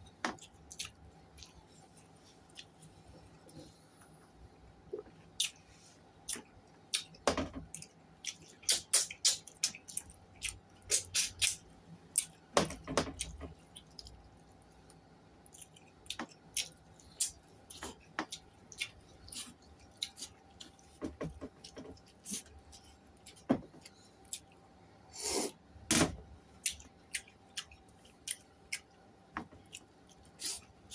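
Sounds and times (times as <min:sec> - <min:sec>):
person chewing and smacking: 0:00.1 - 0:01.6, 0:02.4 - 0:03.6, 0:05.0 - 0:05.6, 0:06.2 - 0:24.6, 0:26.6 - 0:30.9.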